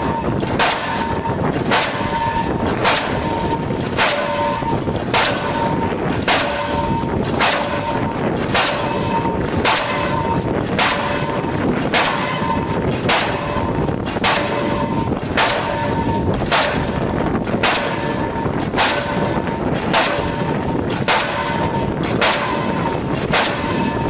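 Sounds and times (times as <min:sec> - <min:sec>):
diesel pile hammer striking: 0:00.0 - 0:24.0
steady tone: 0:00.0 - 0:24.0.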